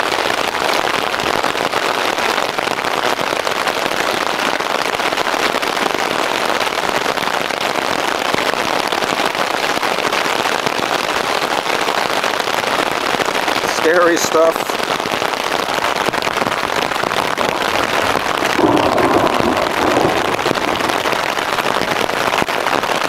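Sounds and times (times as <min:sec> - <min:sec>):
heavy rain on a tarp: 0:00.0 - 0:23.0.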